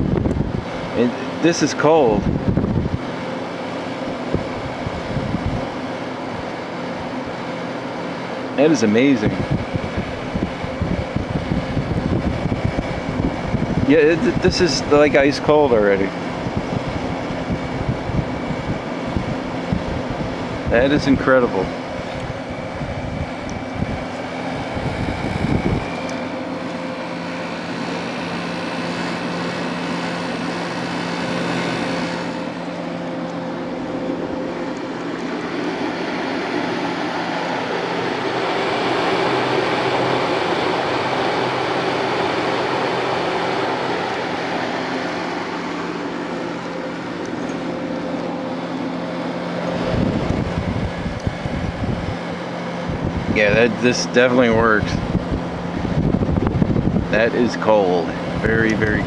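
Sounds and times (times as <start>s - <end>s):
air conditioner compressor hum: 0.0s - 59.0s
air conditioner fan rushing: 0.0s - 59.0s.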